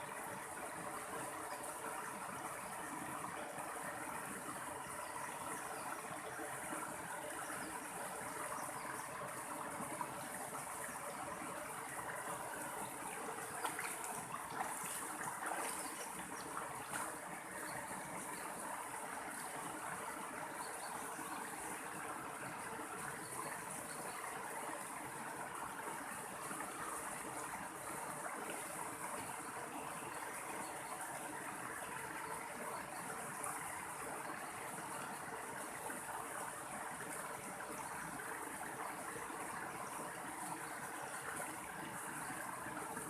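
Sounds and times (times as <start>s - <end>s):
stream water flowing over rocks: 0.0s - 43.0s.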